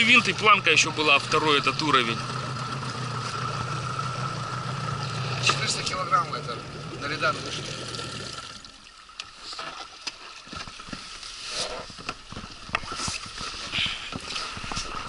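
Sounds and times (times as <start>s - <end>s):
water splashes: 0.0s - 15.0s.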